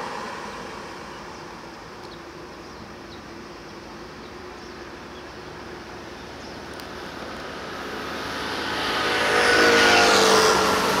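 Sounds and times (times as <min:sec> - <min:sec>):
road vehicle approaching: 0:00.0 - 0:11.0.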